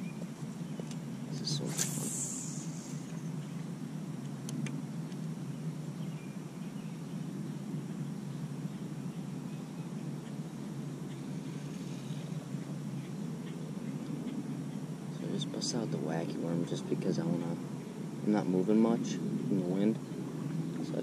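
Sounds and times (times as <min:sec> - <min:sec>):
low wind rumble on microphone: 0:00.0 - 0:21.0.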